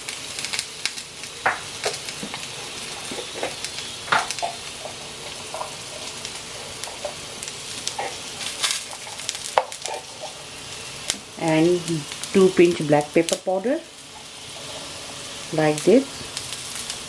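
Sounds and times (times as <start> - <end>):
sausages sizzling in a pan: 0.0 - 17.0.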